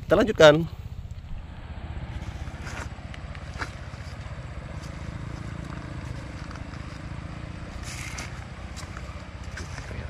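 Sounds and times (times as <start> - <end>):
machine engine throbbing: 0.0 - 10.0.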